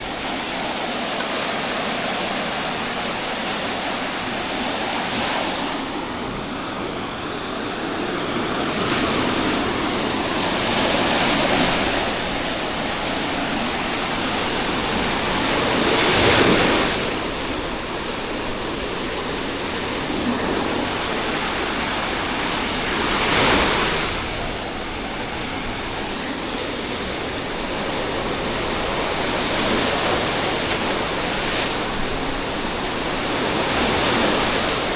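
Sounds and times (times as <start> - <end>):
sea waves breaking on beach: 0.0 - 34.9.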